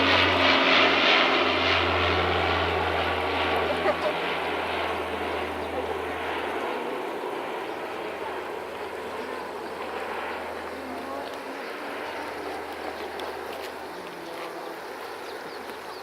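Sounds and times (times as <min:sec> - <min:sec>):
small propeller aircraft passing over: 0:00.0 - 0:16.0.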